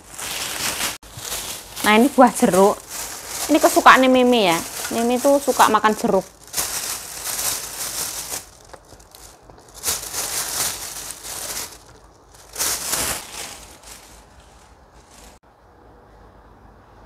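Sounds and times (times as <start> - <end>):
rustling and crinkling: 0.0 - 15.4.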